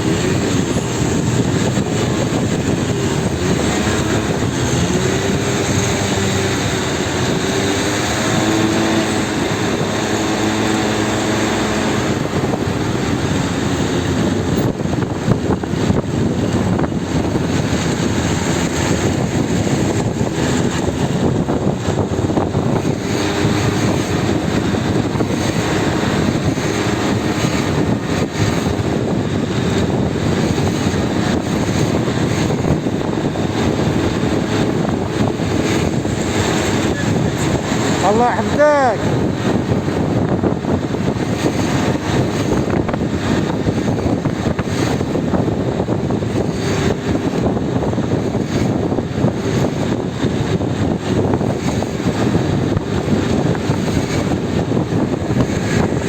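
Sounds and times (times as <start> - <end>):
heavy sea breaking on shore: 0.0 - 56.0
strong wind: 0.0 - 56.0.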